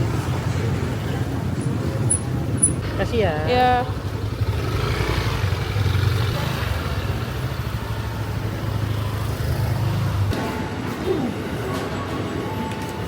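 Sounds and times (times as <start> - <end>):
vehicle engine rumble: 0.0 - 12.6
traffic noise: 0.0 - 13.0.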